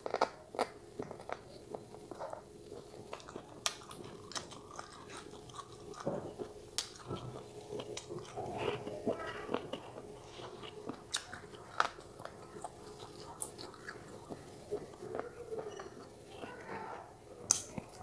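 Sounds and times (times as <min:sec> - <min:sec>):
person chewing crunchy food: 0:00.0 - 0:16.9.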